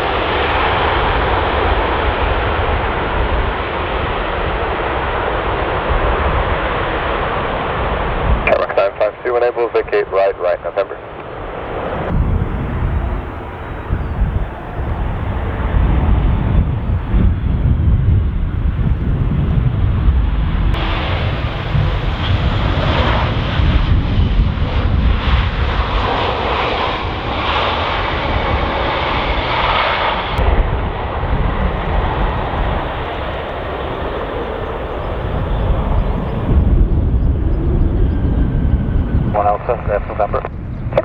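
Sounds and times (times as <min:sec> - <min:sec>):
jet airliner engines rumbling: 0:00.0 - 0:41.0.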